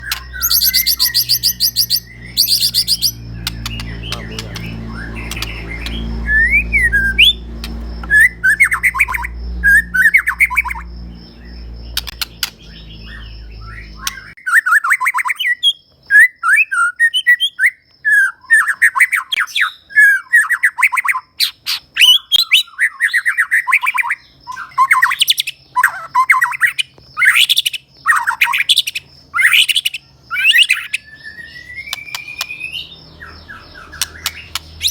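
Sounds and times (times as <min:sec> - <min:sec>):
bird singing varied phrases: 0:00.0 - 0:34.9.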